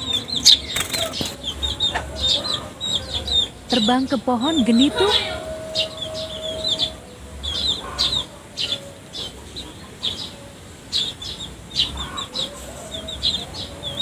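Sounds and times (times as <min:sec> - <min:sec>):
sparrows chirping: 0:00.0 - 0:14.0.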